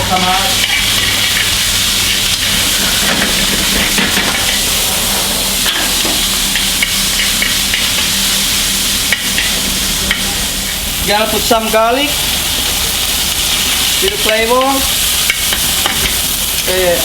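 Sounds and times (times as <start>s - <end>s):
chicken sizzling in a frying pan: 0.0s - 17.0s.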